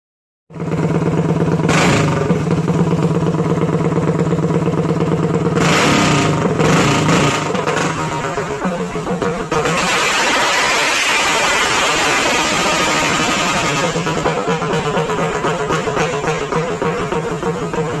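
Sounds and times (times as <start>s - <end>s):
go-kart engine with loud exhaust: 0.5s - 18.0s.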